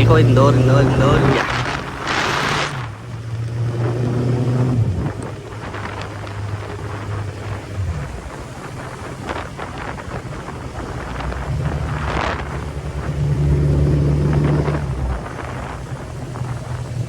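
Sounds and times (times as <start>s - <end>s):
motorcycle engine revving: 0.0s - 17.0s
wind on microphone: 0.8s - 17.0s.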